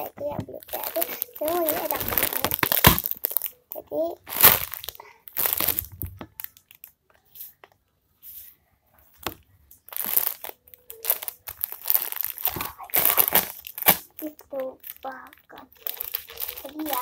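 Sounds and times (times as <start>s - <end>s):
plastic bag crinkling: 0.0s - 7.0s, 9.8s - 17.0s.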